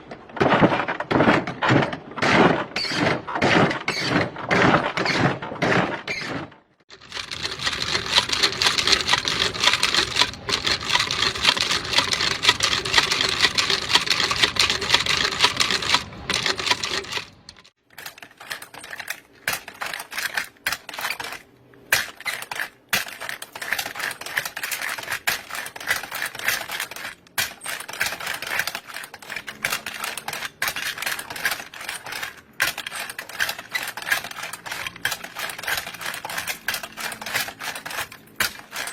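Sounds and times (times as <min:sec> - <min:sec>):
cartridges clicking and rattling: 0:06.9 - 0:38.9.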